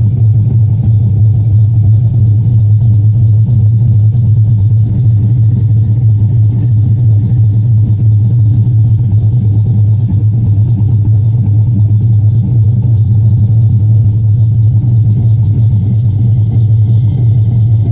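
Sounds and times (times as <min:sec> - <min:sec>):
car engine idling loudly: 0:00.0 - 0:17.9.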